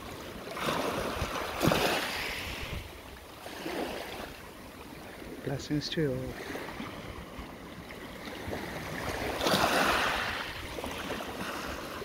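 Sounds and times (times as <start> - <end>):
waves washing over pebbles: 0.0 - 12.0.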